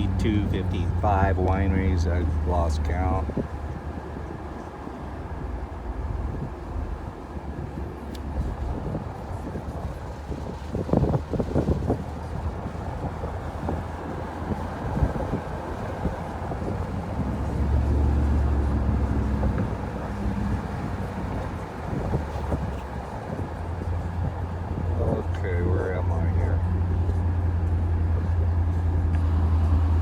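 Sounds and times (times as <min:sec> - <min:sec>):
wind noise on microphone: 0:00.0 - 0:25.8
car exhaust drone: 0:00.0 - 0:30.0.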